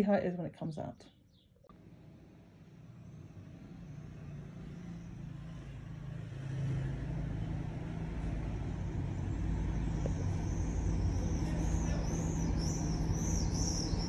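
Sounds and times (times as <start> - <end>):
low motor rumble: 1.7 - 14.0.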